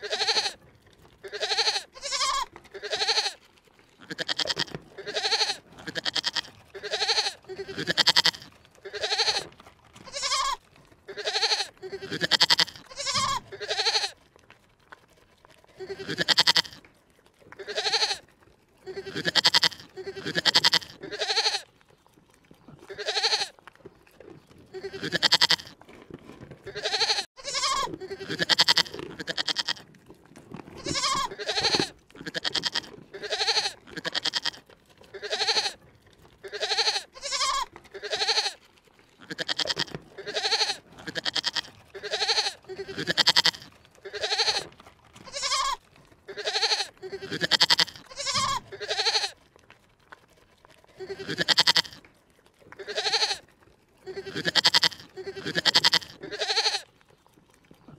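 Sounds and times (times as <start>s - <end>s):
animal bleating: 0.0s - 14.2s, 15.6s - 21.8s, 22.6s - 23.7s, 24.3s - 30.0s, 30.7s - 49.4s, 50.7s - 57.0s.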